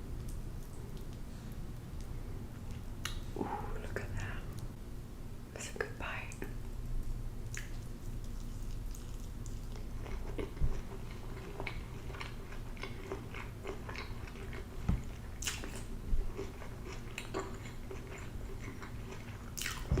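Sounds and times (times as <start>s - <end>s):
wet chewing with mouth clicks: 0.2s - 3.3s, 6.4s - 20.0s.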